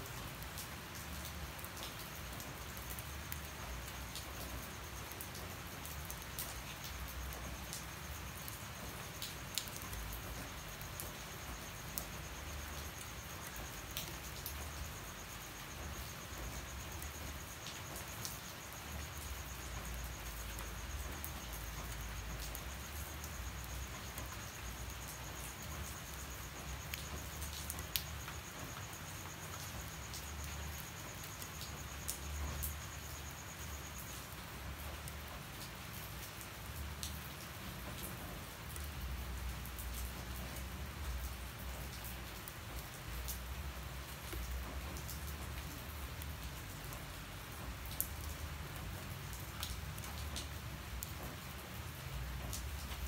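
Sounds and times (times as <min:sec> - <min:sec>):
high-pitched insect trill: 0:00.0 - 0:53.0
rain falling: 0:00.0 - 0:53.0
raindrops striking surfaces: 0:00.0 - 0:53.0.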